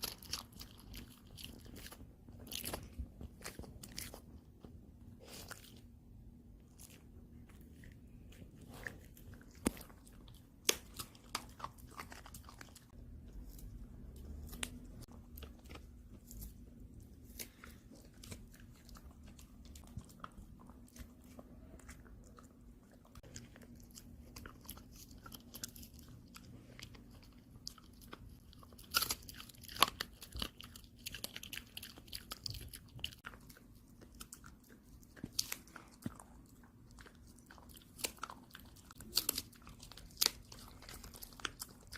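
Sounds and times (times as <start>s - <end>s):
dog chewing and crunching: 0.0s - 41.9s.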